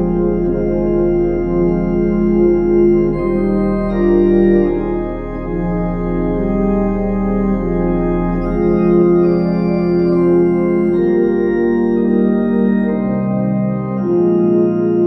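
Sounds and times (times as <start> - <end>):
deep organ pedal bass note: 0.0 - 15.0
organ playing sustained chords: 0.0 - 15.0.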